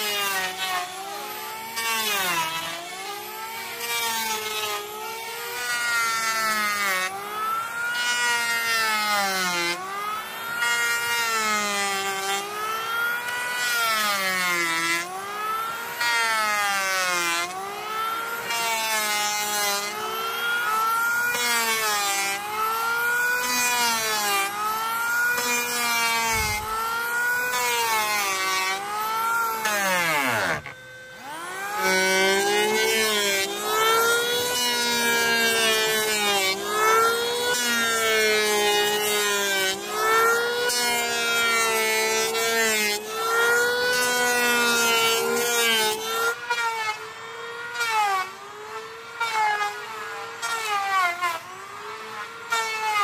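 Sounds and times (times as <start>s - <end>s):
power tool cutting wood: 0.0s - 53.0s.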